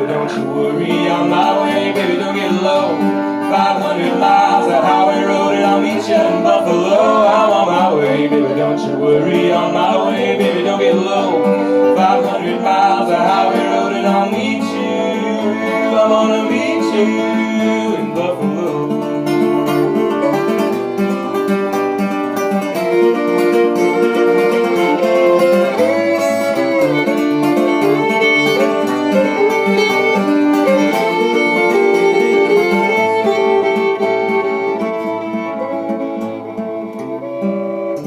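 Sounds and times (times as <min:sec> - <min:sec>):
fiddle playing lead: 0:00.0 - 0:38.0
plucked banjo: 0:00.0 - 0:38.0
strummed acoustic guitar: 0:00.0 - 0:38.0.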